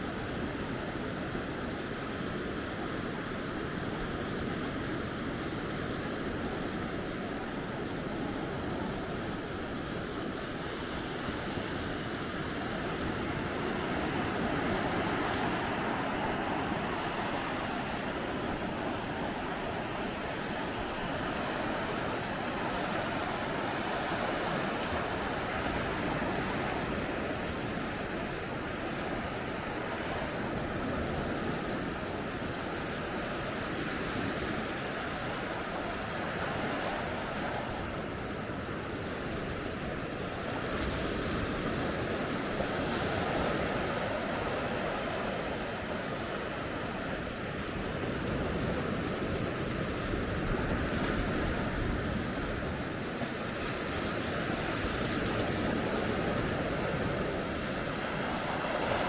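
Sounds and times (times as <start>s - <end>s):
waves washing onto beach: 0.0s - 59.0s.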